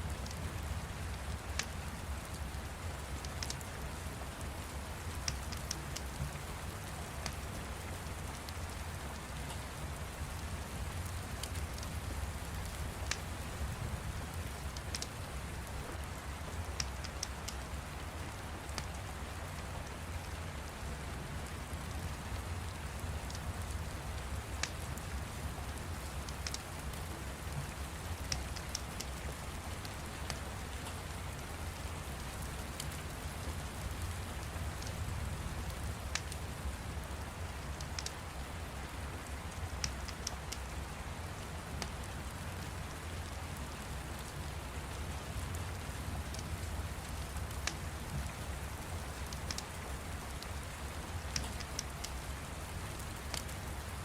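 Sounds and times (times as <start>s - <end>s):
steady rain: 0.0s - 54.0s
fire crackling and popping: 1.0s - 19.1s, 21.9s - 38.5s, 39.3s - 44.4s, 45.2s - 53.9s.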